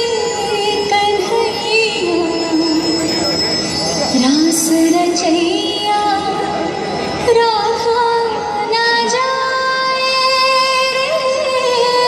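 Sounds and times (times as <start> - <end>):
song over loudspeakers: 0.0 - 12.0.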